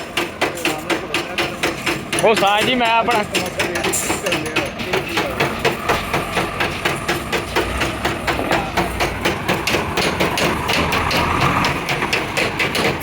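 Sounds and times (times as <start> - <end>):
hand hammer striking metal: 0.0 - 13.0.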